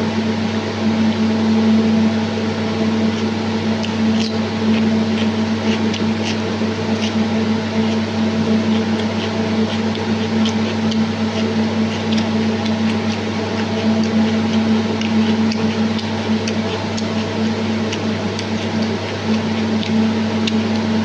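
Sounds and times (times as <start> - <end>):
fan motor hum: 0.0 - 21.0
person chewing: 3.1 - 21.0.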